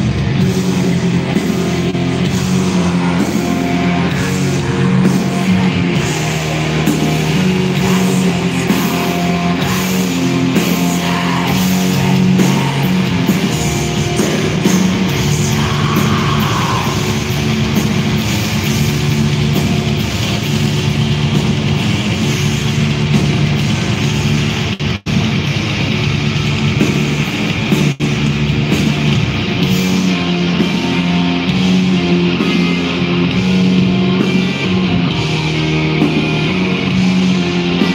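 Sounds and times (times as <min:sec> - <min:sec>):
dense drumming: 0:00.0 - 0:37.9
distorted electric guitars: 0:00.0 - 0:37.9.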